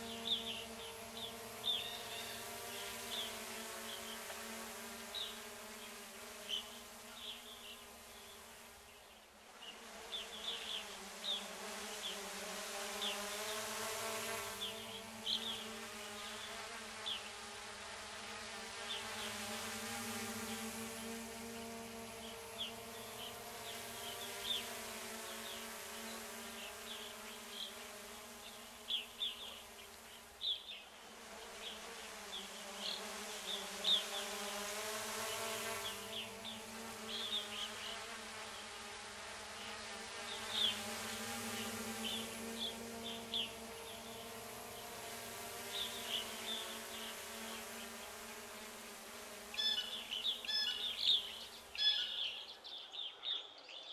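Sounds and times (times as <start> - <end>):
birds chirping: 0.0 - 12.3, 12.9 - 17.4, 18.8 - 38.8, 39.4 - 53.9
steady buzzing hum: 0.0 - 53.1.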